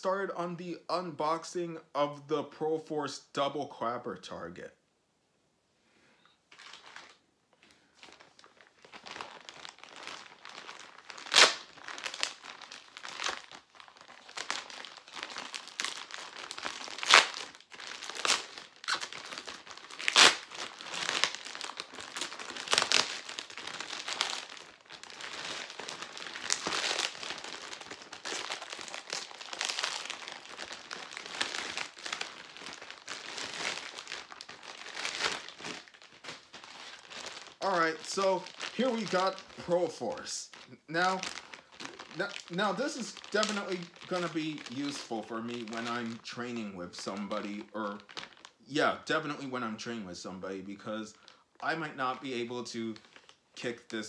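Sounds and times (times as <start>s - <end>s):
plastic packaging crinkling: 6.5s - 48.6s, 50.6s - 54.0s.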